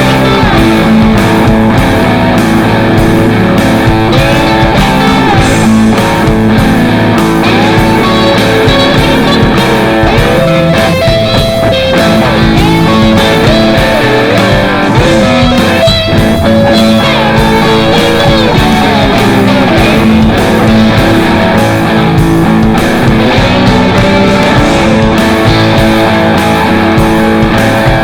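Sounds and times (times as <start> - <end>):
rock music with electric guitar: 0.0 - 28.0.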